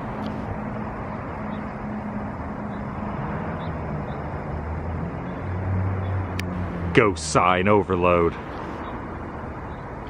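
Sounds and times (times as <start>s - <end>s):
street traffic noise: 0.0s - 10.0s
vehicle engine hum: 0.0s - 10.0s.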